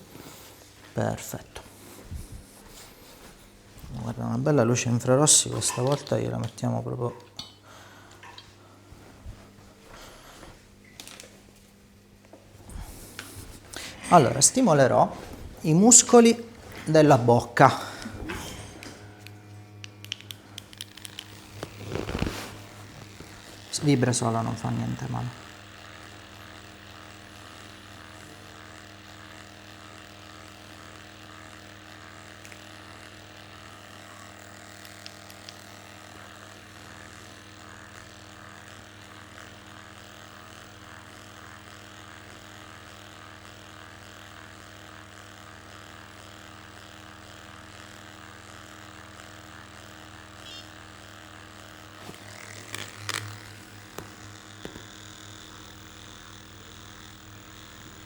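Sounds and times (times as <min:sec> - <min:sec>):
massage device motor hum: 0:00.0 - 0:58.0.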